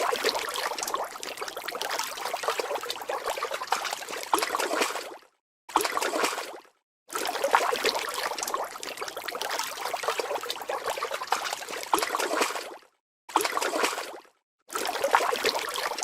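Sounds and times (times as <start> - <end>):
water splashing and dribbling: 0.0 - 16.0.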